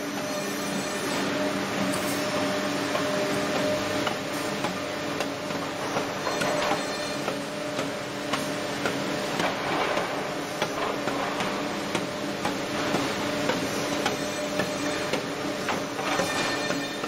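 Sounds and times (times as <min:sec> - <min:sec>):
machine clacks and knocks: 0:02.9 - 0:17.0.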